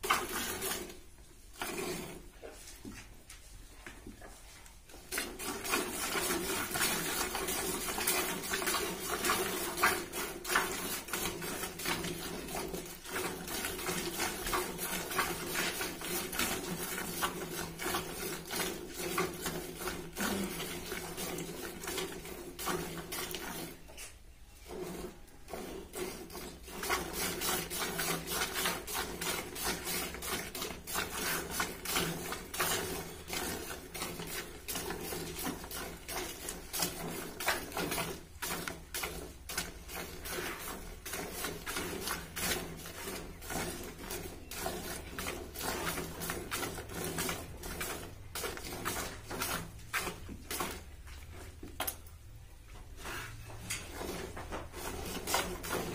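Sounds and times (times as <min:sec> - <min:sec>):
milk squirting into plastic bucket: 0:00.0 - 0:03.1, 0:04.9 - 0:55.9.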